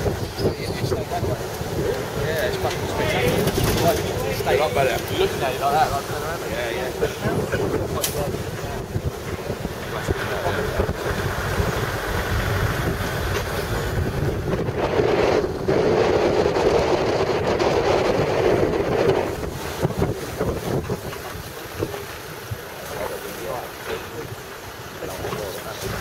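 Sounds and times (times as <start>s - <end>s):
vehicle engine and road noise: 0.0s - 26.0s
wind buffeting microphone: 0.0s - 26.0s.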